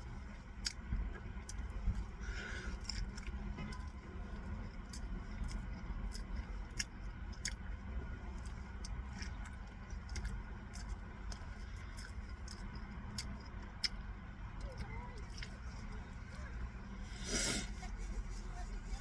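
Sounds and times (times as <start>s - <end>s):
person chewing: 0.3s - 17.7s.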